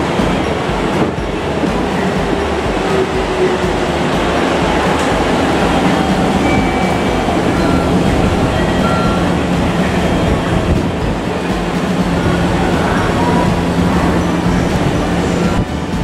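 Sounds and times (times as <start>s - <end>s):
low steady hum: 0.0s - 16.0s
train rolling on tracks: 0.0s - 16.0s.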